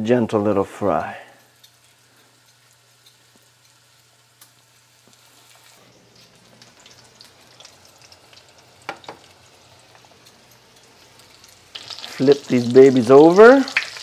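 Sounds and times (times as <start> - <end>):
chicken frying in oil: 0.8 - 14.0.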